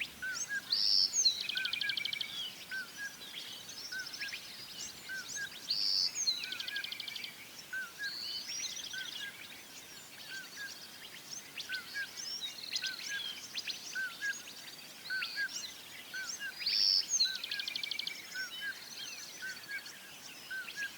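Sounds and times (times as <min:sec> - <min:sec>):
birds chirping and trilling: 0:00.0 - 0:20.9.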